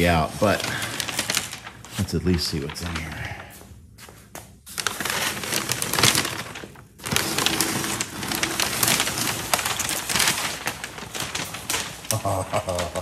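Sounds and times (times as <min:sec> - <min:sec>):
packing paper crinkling: 0:00.0 - 0:03.6, 0:04.6 - 0:13.0.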